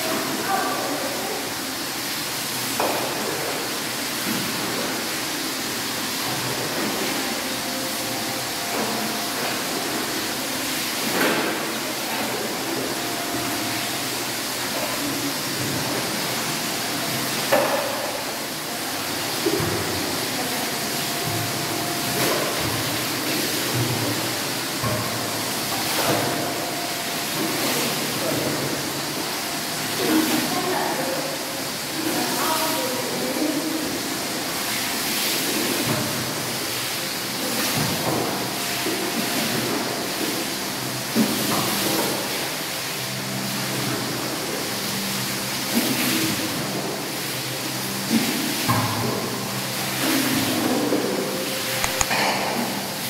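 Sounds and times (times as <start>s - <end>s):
tap water running into basin: 0.0s - 53.0s
water splashing: 0.0s - 53.0s.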